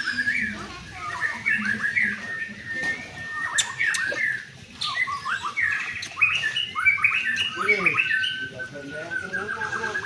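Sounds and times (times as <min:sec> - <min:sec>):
bird singing whistled notes: 0:00.0 - 0:10.0.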